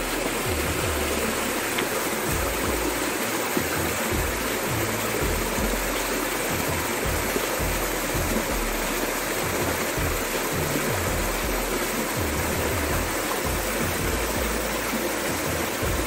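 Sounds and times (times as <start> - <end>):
stream pouring over rocks: 0.0 - 16.0.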